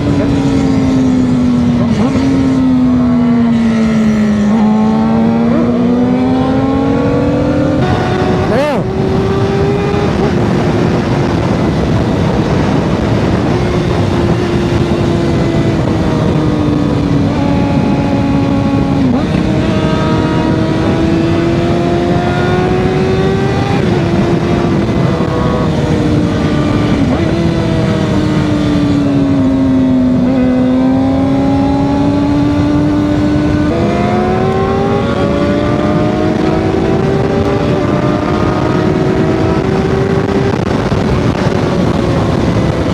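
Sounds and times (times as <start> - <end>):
motorcycle engine running loud: 0.0 - 42.9
wind rush: 0.0 - 42.9.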